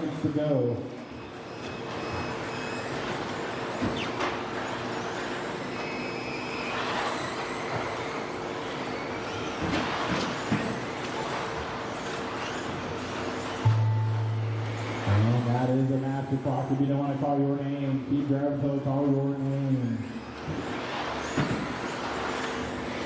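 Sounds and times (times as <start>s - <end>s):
electric motor whines: 1.0s - 23.0s.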